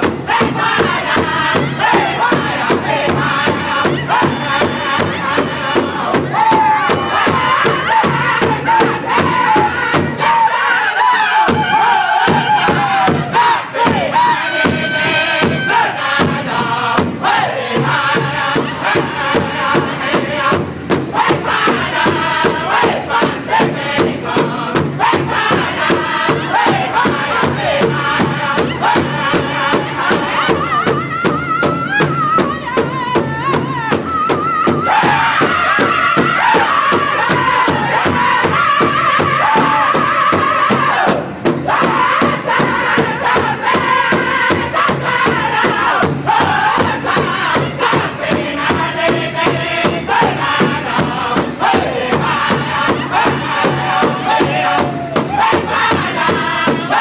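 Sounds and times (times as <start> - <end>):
large drum beat: 0.0 - 10.7, 11.3 - 57.0
group singing high vocables: 0.0 - 57.0.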